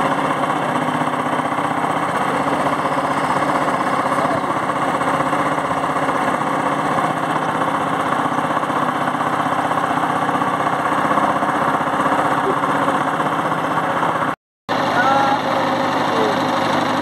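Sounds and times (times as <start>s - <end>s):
small boat engine running: 0.0s - 17.0s.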